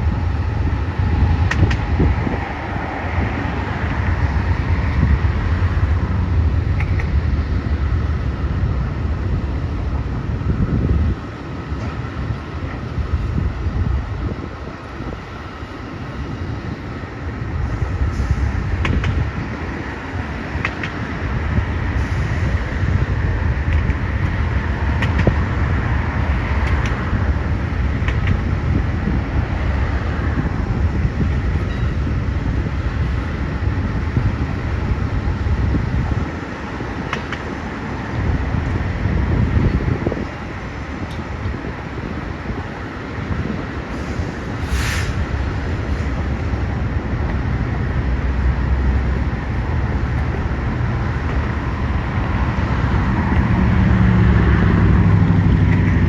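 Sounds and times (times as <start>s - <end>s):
passenger train rumbling by: 0.0s - 56.0s.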